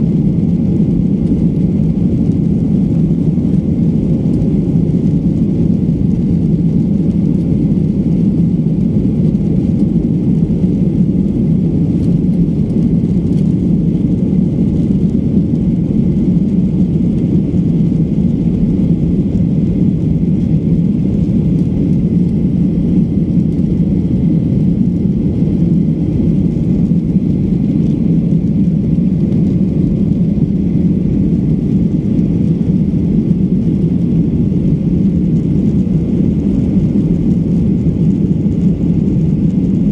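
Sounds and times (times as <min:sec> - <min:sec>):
jet cabin engine roar: 0:00.0 - 0:39.9.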